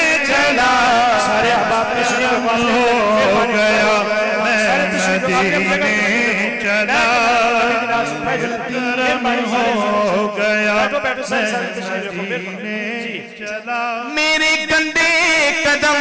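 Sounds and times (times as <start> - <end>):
man singing through microphone: 0.0 - 16.0.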